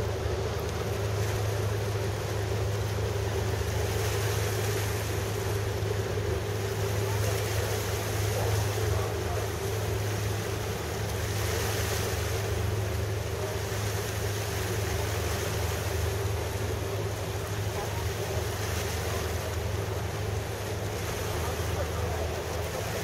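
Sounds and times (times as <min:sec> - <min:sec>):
boat engine drone: 0:00.0 - 0:23.0
water rushing: 0:00.0 - 0:23.0.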